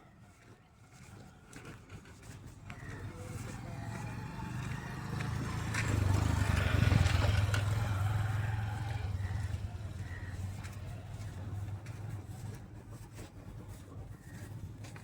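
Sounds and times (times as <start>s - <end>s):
truck engine running: 2.6s - 15.0s.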